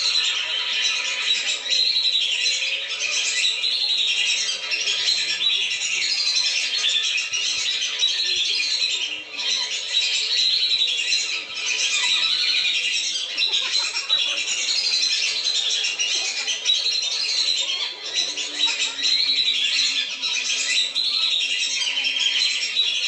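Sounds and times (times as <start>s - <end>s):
ducks whistling in chorus: 0.0s - 23.0s.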